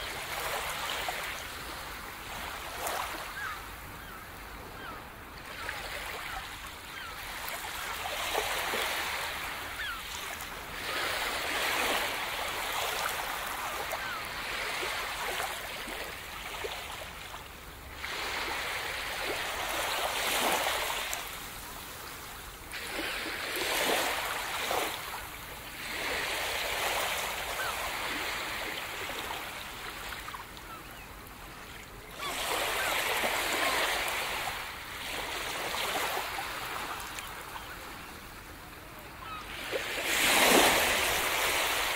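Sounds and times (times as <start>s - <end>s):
small waves washing up a beach: 0.0s - 41.9s.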